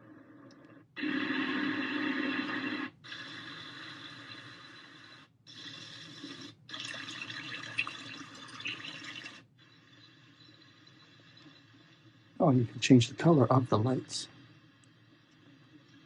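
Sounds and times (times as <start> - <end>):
white noise from small speaker: 0.0 - 16.0.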